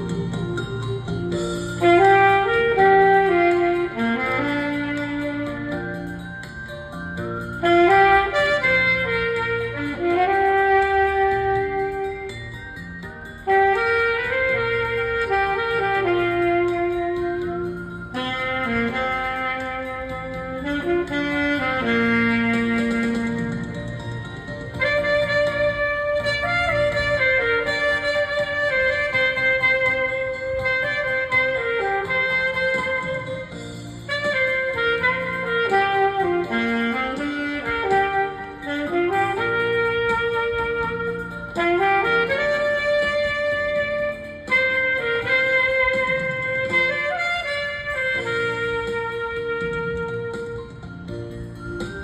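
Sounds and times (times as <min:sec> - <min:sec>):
saxophone playing slow melody: 0:00.0 - 0:51.9.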